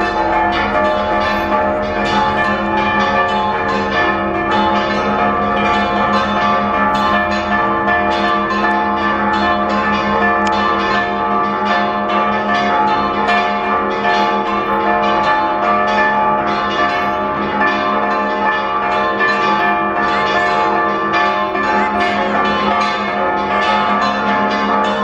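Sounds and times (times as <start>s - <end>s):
church bells ringing rapidly: 0.0s - 25.0s.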